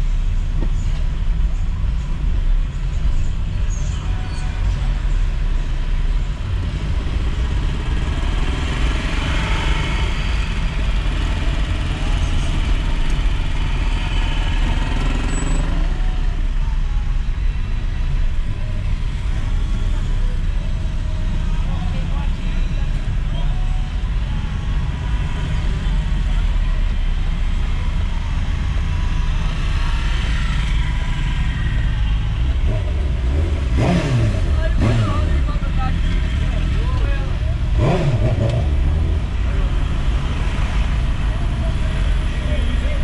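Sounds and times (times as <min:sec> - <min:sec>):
car engine and tyres rumbling: 0:00.0 - 0:43.0.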